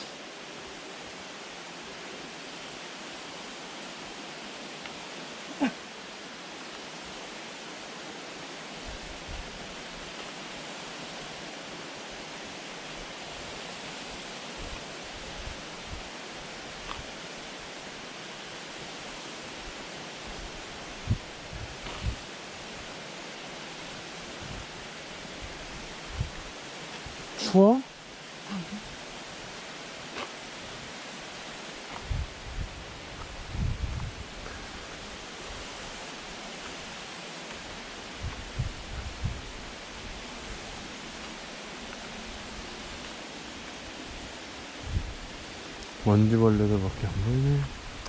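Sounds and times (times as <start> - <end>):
steady rushing noise: 0.0 - 48.0.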